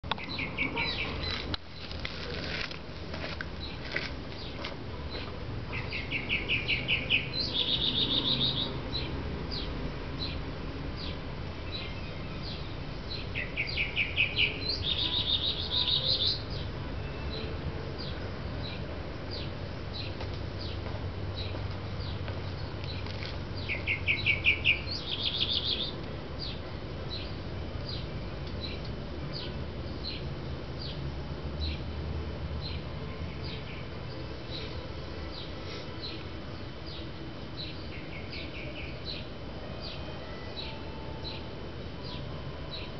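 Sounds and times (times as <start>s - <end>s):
songbird trill: 0.0s - 2.0s, 3.5s - 31.0s, 32.6s - 42.9s
songbird chirps: 0.0s - 31.9s, 32.6s - 42.9s.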